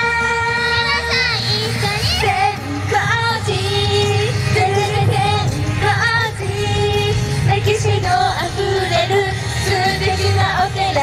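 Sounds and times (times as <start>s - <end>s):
pop backing track: 0.0s - 11.0s
women singing pop song: 0.0s - 11.0s.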